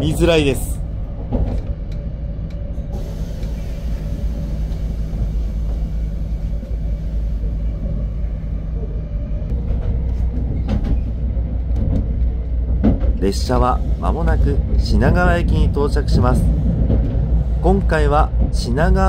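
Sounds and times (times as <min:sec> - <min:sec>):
train running low rumble: 0:00.0 - 0:19.0.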